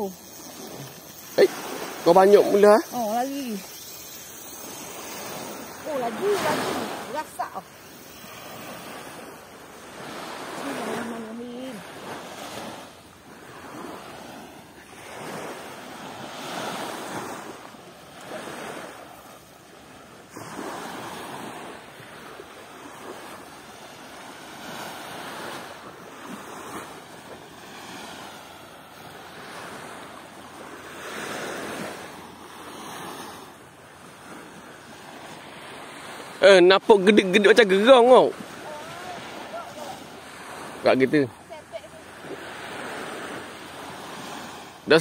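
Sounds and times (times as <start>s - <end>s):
small waves washing ashore: 0.0s - 45.0s
wind: 0.0s - 45.0s.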